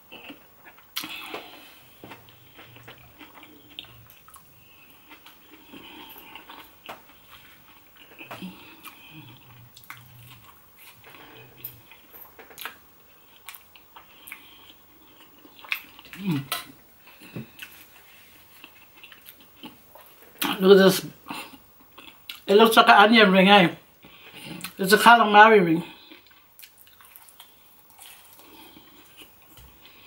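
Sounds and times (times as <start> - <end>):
person chewing food: 0.0 - 20.6, 21.2 - 22.5, 23.9 - 24.8, 25.8 - 30.0.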